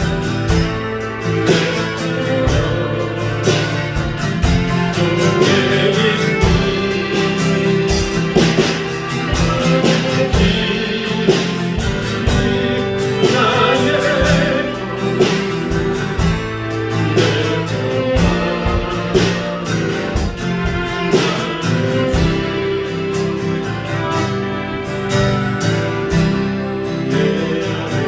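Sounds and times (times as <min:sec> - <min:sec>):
voices singing: 0:00.0 - 0:25.0, 0:25.8 - 0:28.0
guitar: 0:00.0 - 0:28.0
steady drum beat: 0:00.0 - 0:28.0.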